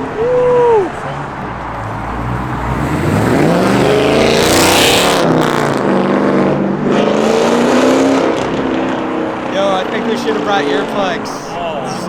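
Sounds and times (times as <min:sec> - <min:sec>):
car engine revving: 0:00.9 - 0:12.0.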